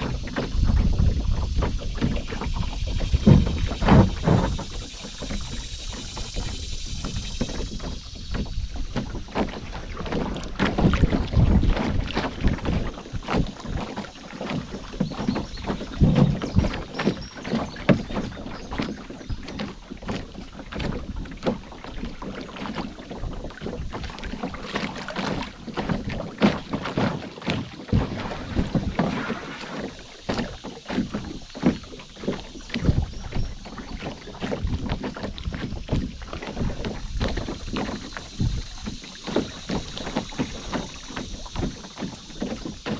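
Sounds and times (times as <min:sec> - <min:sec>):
wind on microphone: 0:00.0 - 0:19.6, 0:20.8 - 0:42.9
knocks and thumps on canoe: 0:00.0 - 0:42.9
paddle strokes splashing in water: 0:00.0 - 0:42.9.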